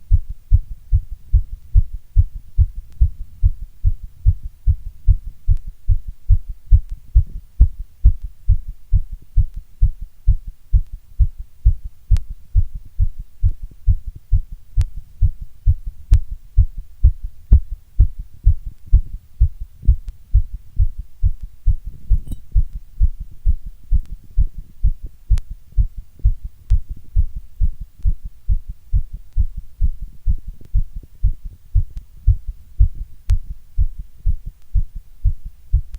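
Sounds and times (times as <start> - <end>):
heartbeat thumps: 0.0 - 35.9.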